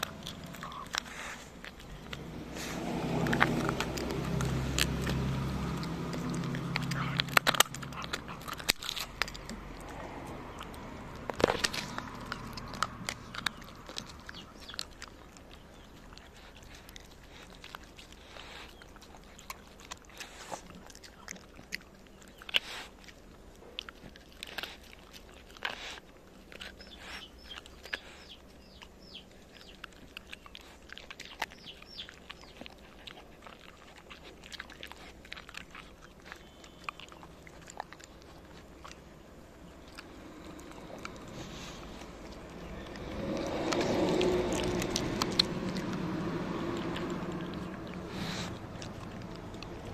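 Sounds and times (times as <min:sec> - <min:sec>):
bones cracking: 0:00.0 - 0:49.9
dog chewing bones: 0:00.0 - 0:49.9.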